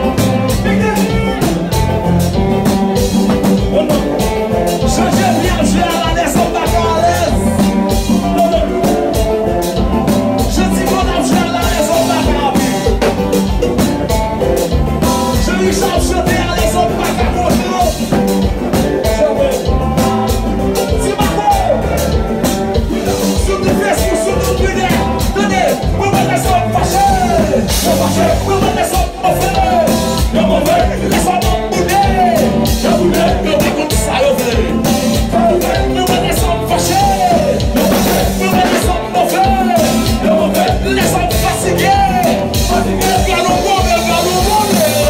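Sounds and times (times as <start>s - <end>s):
person singing: 0.0s - 2.4s, 3.0s - 13.8s, 14.5s - 45.0s
live band dance groove: 0.0s - 45.0s.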